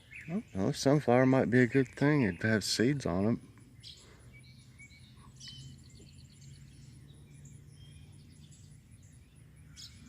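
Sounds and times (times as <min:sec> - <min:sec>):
songbirds chirping and singing: 0:00.0 - 0:10.0
steady low hum: 0:00.0 - 0:10.0.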